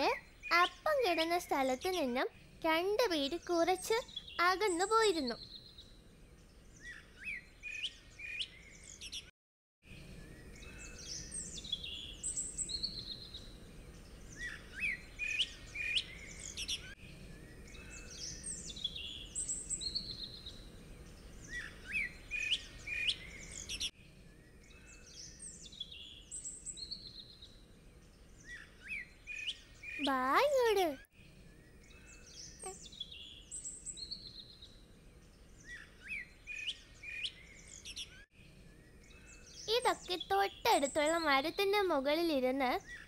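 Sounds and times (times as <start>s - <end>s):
birds chirping and whistling: 3.8s - 9.3s, 9.9s - 41.7s.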